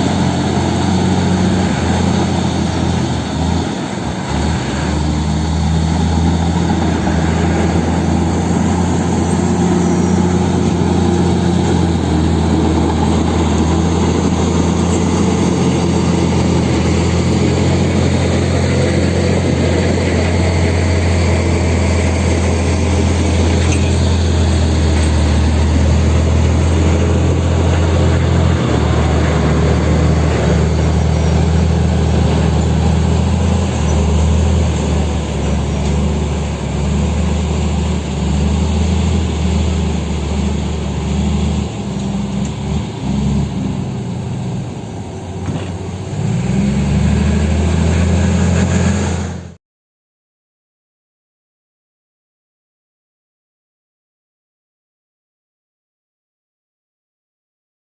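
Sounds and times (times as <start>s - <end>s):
diesel engine running: 0.0s - 49.6s.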